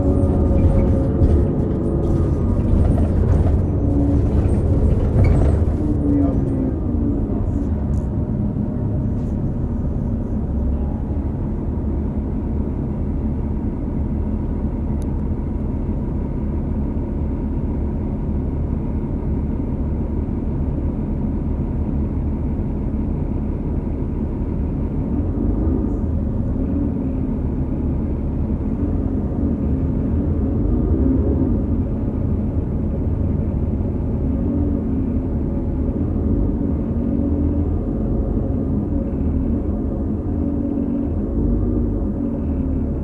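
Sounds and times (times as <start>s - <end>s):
bus engine low rumble: 0.0s - 43.0s.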